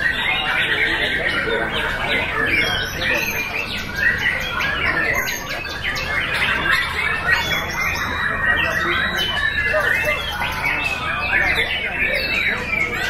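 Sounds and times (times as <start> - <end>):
birds singing in chorus: 0.0 - 13.0.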